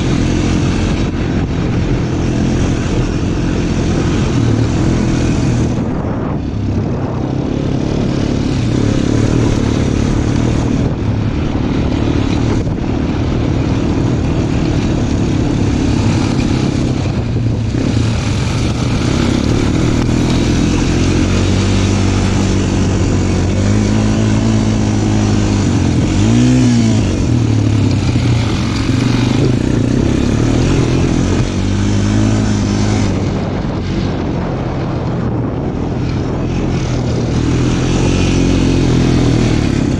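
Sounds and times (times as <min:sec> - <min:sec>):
off-road vehicle engine revving: 0:00.0 - 0:39.9
steady rushing noise: 0:00.0 - 0:39.9.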